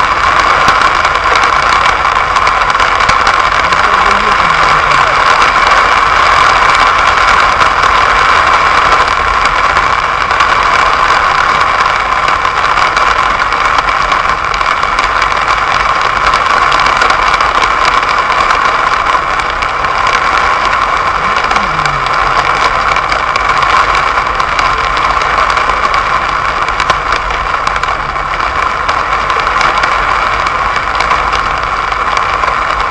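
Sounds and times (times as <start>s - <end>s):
heavy rain on car roof: 0.0s - 32.9s.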